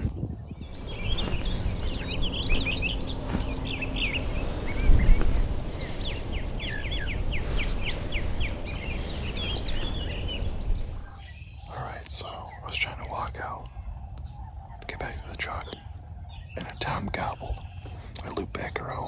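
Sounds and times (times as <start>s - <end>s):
songbirds chirping: 0.0s - 19.0s
steady low rumble: 0.6s - 19.0s.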